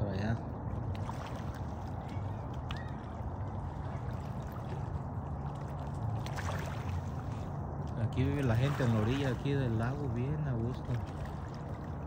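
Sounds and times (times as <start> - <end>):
water lapping against rocks: 0.6 - 12.0.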